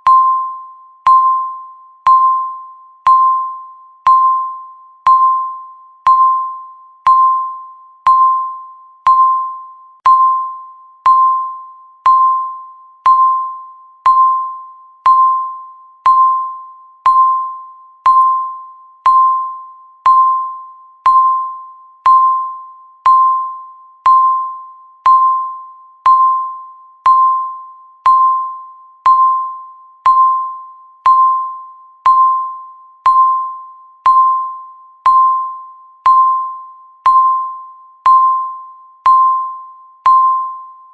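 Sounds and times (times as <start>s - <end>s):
countdown timer beeping: 0.0s - 40.9s.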